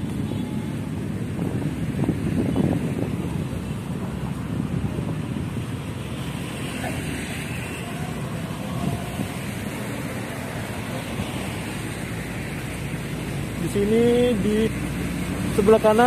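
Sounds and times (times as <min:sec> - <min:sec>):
wind rumbling on microphone: 0:00.0 - 0:13.6
busy road traffic: 0:00.0 - 0:16.0.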